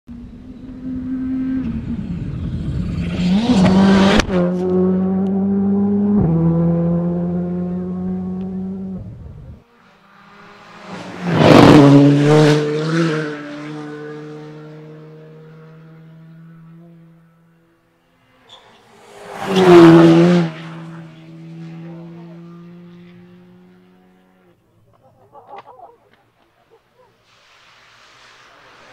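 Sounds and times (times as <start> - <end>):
rally car passing at speed: 0.1 - 24.6.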